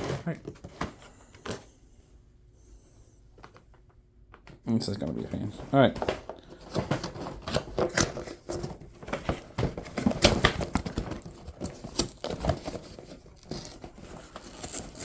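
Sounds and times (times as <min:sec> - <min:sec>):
cardboard and plastic rustling: 0:00.0 - 0:01.8, 0:03.4 - 0:15.0.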